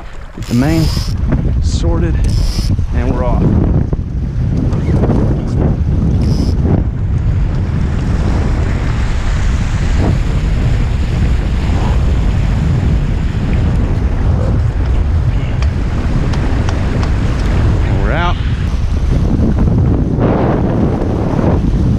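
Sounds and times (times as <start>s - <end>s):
water washing along hulls: 0.0s - 21.9s
wind buffeting microphone: 0.0s - 21.9s.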